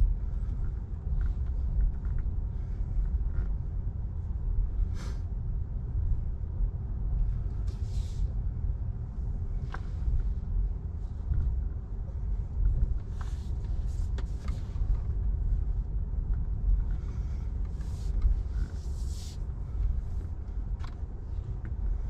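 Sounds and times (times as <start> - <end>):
vacuum low rumble: 0.0 - 22.0.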